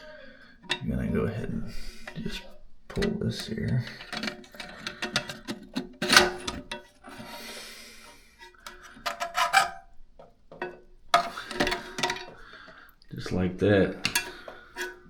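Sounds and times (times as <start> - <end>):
plastic scraping and rubbing: 0.6 - 7.6, 8.3 - 12.7, 13.8 - 15.0.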